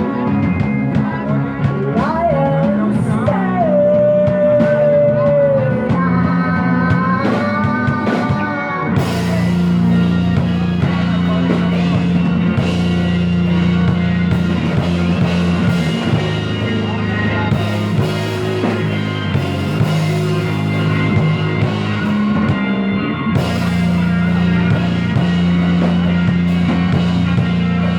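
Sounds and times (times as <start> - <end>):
psychedelic rock band playing: 0.0 - 27.9.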